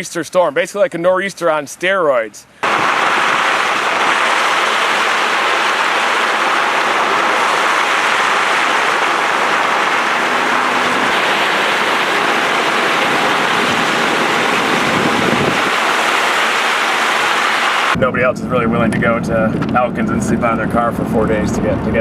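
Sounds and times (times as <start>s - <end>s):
storm rushing noise: 2.6s - 20.8s.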